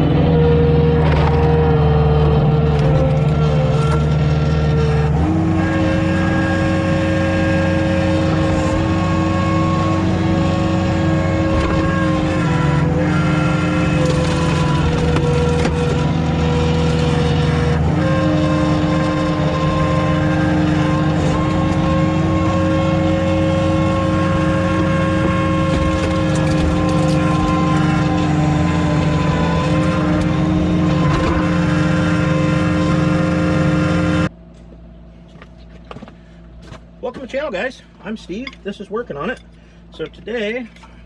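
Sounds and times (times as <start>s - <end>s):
skid steer engine running: 0.0s - 41.0s.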